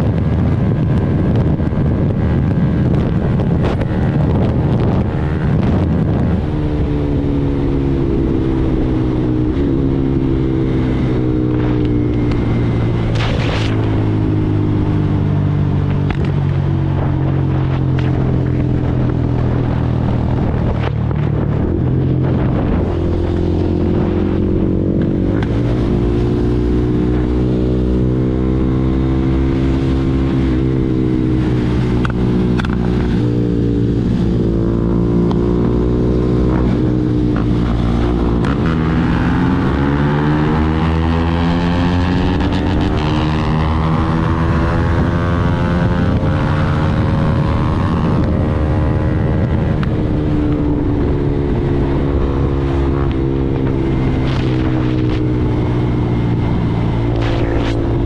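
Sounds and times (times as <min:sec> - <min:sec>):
motorcycle engine at speed: 0:00.0 - 0:58.0.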